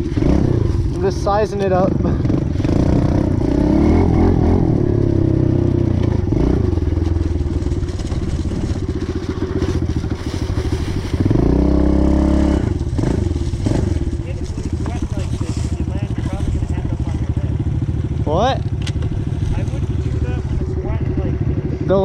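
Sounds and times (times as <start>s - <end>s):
small motorcycle engine puttering: 0.0s - 21.2s.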